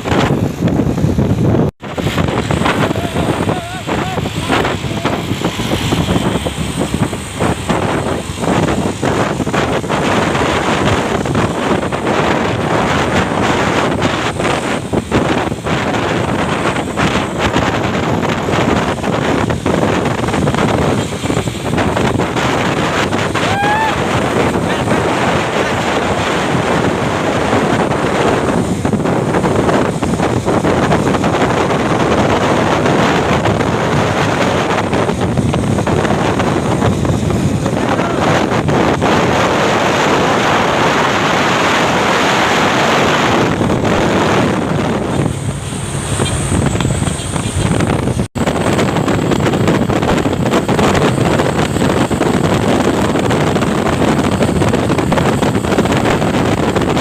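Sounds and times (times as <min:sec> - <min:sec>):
truck running on road: 0:00.0 - 0:57.0
wind noise on microphone: 0:00.0 - 0:57.0.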